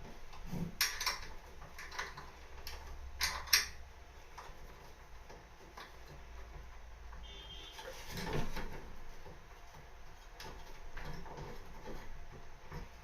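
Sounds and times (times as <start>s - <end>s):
sharp clicks and knocks: 0.0s - 13.0s.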